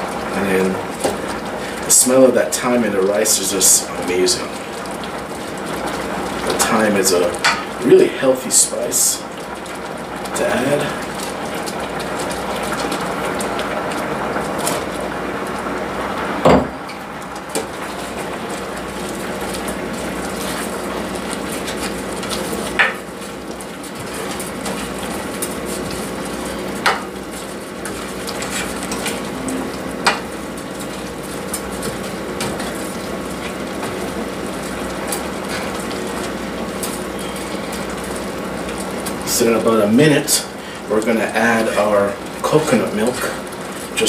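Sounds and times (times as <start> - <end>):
pot simmering with hiss: 0.0 - 44.0.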